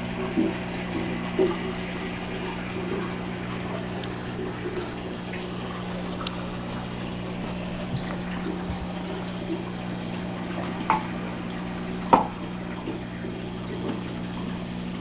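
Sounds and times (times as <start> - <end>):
aquarium pump humming: 0.0 - 15.0
water trickling and gurgling: 0.0 - 15.0.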